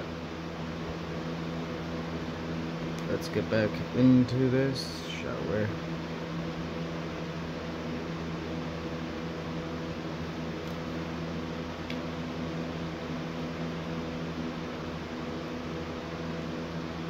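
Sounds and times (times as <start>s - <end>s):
fan humming and whirring: 0.0s - 17.0s.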